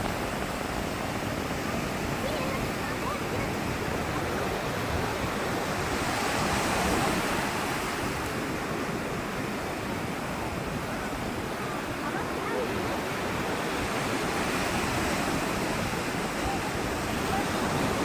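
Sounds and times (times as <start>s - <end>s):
sea waves washing on shore: 0.0s - 18.0s.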